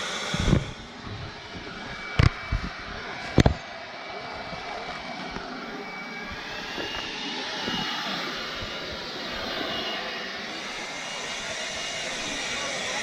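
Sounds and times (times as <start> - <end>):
faint distant voices: 0.0 - 13.0
steady rushing noise: 0.0 - 13.0.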